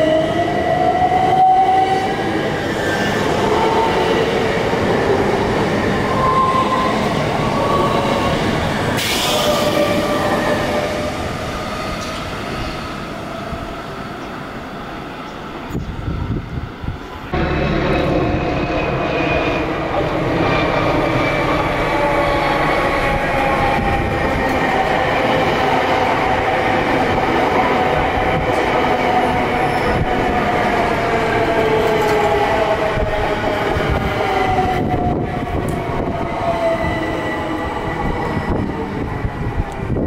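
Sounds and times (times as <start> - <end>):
wheels rumbling on rail: 3.7 - 40.0.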